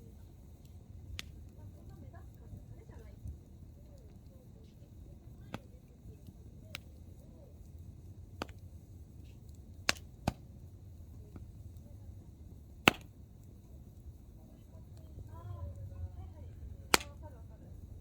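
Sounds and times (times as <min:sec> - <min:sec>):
campfire crackling and popping: 0:00.0 - 0:18.0
low steady rumble: 0:00.0 - 0:18.0.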